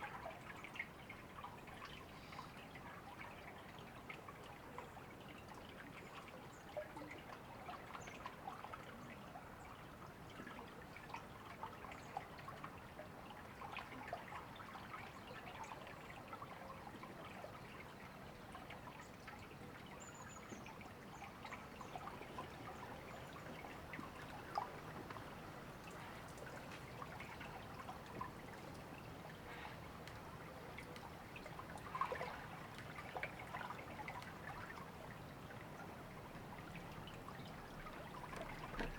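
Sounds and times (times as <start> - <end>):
stream trickling and babbling: 0.0 - 38.9.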